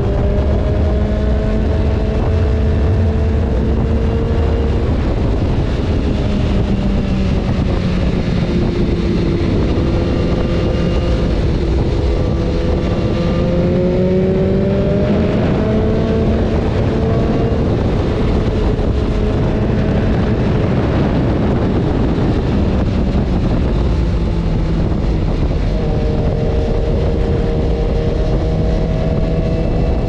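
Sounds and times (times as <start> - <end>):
motorcycle engine running: 0.0 - 30.0
wind rush on microphone: 0.0 - 30.0.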